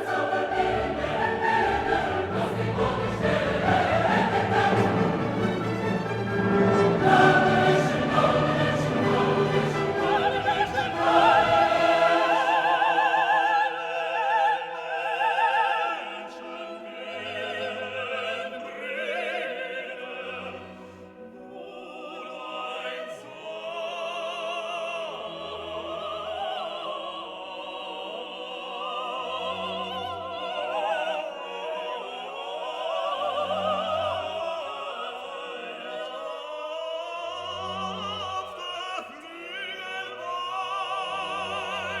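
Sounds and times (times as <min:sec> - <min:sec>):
choir and orchestra: 0:00.0 - 0:42.0
solo operatic voices singing: 0:00.0 - 0:42.0.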